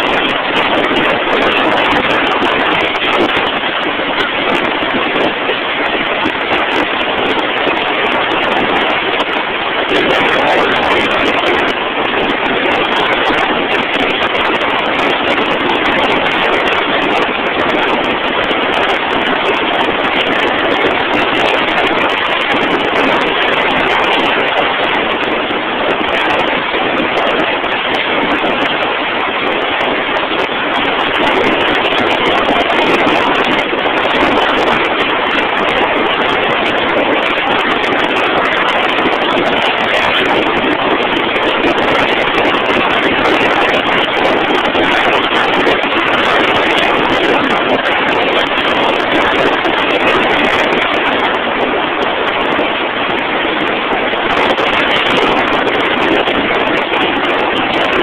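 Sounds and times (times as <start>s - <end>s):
heavy drilling rig machinery: 0.0s - 58.0s.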